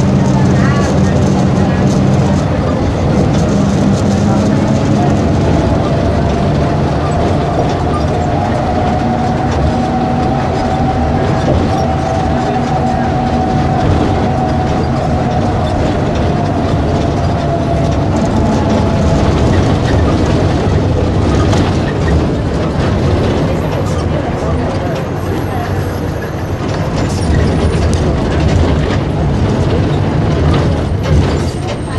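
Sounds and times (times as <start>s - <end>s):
bus engine droning with whine: 0.0s - 31.9s.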